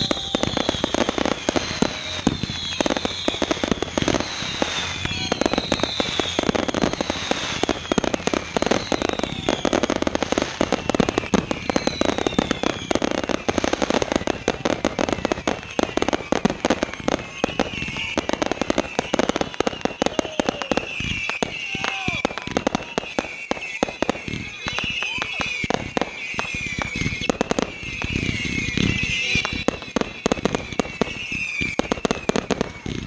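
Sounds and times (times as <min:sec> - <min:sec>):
firework whistles falling in pitch: 0:00.0 - 0:33.0
fireworks bangs and crackling: 0:00.0 - 0:33.0.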